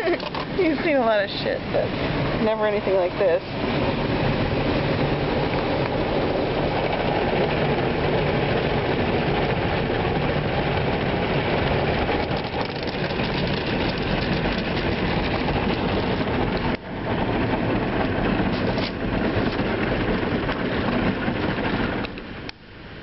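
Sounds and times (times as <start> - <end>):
car wash water spray: 0.0 - 23.0.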